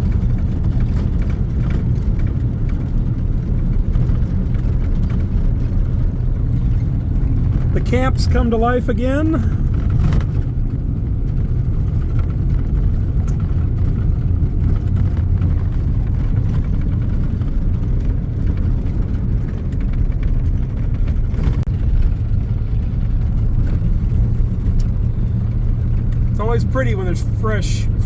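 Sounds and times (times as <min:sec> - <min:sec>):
vehicle driving on a road: 0:00.0 - 0:28.0.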